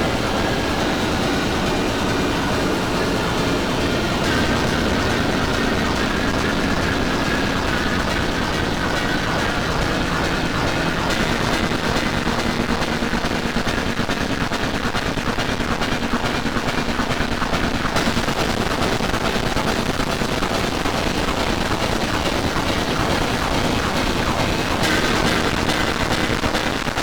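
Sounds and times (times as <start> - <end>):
heavily distorted layered band music: 3.8 - 27.0.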